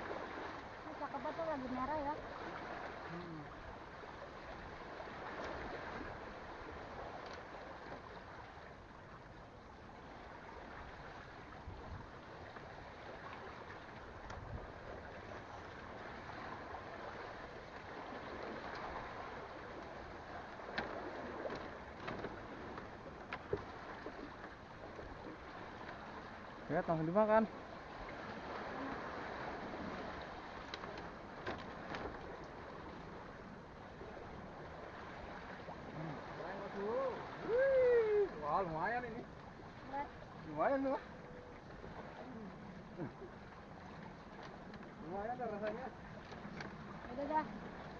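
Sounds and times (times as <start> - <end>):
sea water washing: 0.0 - 47.9.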